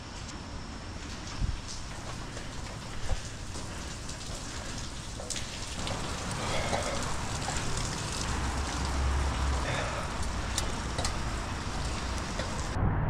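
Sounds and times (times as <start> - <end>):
rain hiss: 0.6 - 12.8.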